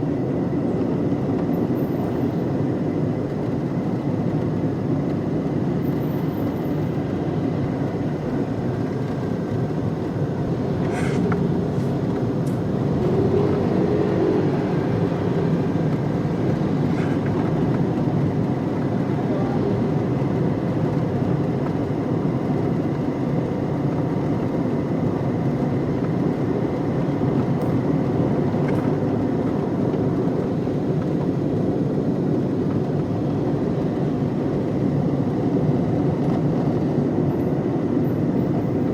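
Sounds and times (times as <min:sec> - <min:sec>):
car interior rumble: 0:00.0 - 0:38.9.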